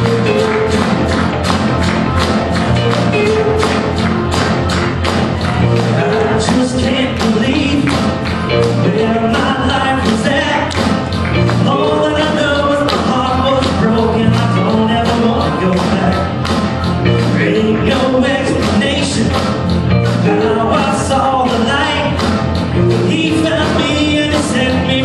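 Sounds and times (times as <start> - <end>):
live band playing upbeat song: 0.0 - 25.0.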